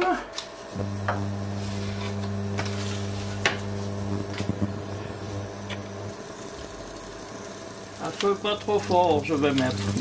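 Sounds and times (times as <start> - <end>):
electric hob humming: 0.0 - 10.0.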